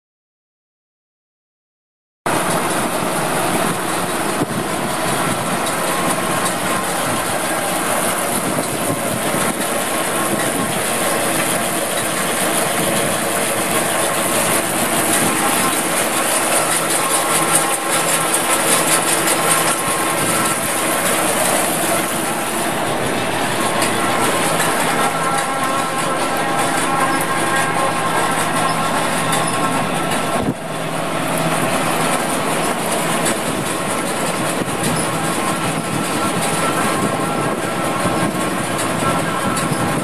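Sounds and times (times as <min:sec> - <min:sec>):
engine running: 0:02.3 - 0:40.0.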